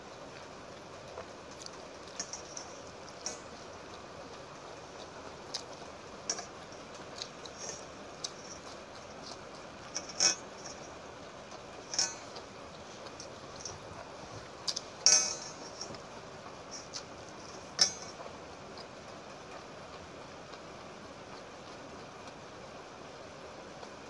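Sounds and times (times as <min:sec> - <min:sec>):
wet chewing mouth sounds: 0:00.1 - 0:24.0.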